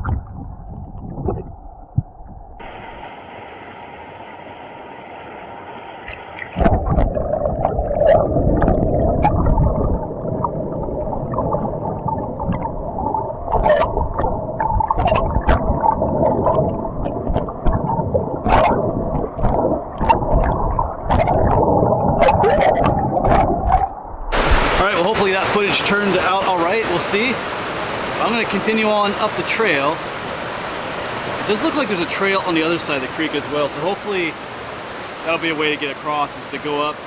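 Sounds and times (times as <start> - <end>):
muffled underwater water rush: 0.0 - 37.0.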